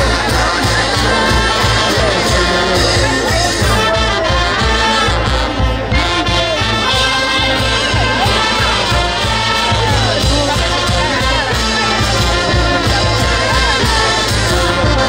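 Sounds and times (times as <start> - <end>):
brass instruments playing: 0.0 - 15.0
steady drum beat: 0.0 - 15.0.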